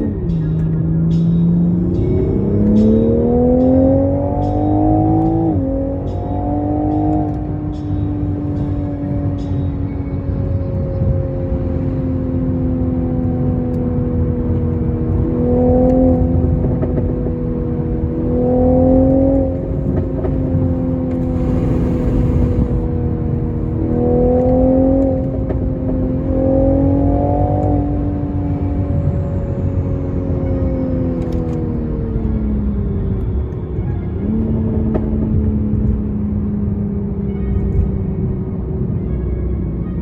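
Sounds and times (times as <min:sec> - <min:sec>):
car engine and exhaust cruising: 0:00.0 - 0:40.0
low road rumble: 0:00.0 - 0:40.0.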